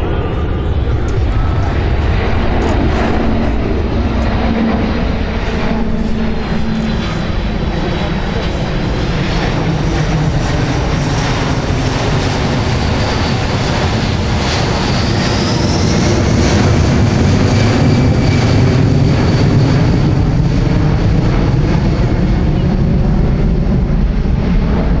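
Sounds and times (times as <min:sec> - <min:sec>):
jet engines roaring overhead: 0:00.0 - 0:25.0.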